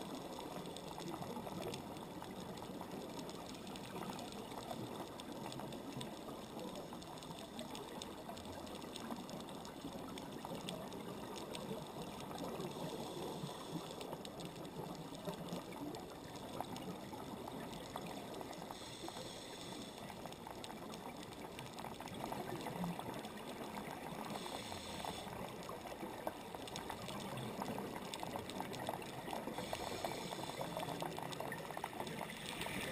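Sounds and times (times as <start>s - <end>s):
underwater fizzing crackle: 0.0s - 32.9s.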